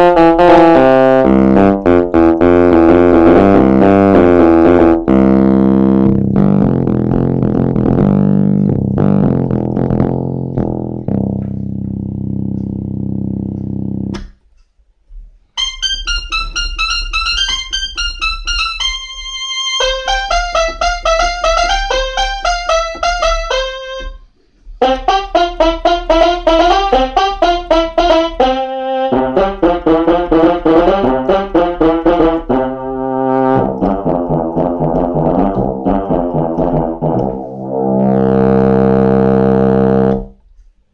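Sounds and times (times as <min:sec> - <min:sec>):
keyboard playing phrases: 0:00.0 - 0:14.4, 0:15.5 - 0:40.6.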